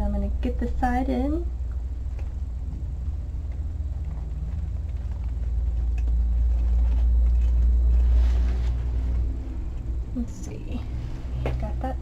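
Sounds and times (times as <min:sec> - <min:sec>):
low steady rumble: 0:00.0 - 0:12.0
mesh crinkling and ticking: 0:01.6 - 0:12.0.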